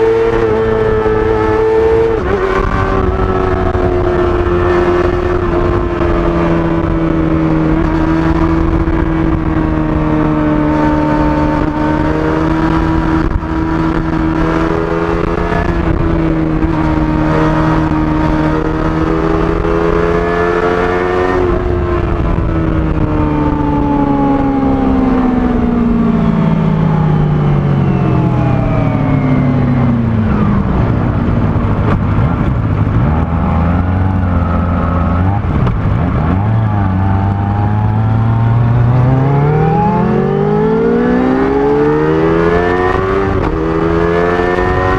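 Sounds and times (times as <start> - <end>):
motorcycle engine revving high: 0.0 - 44.9.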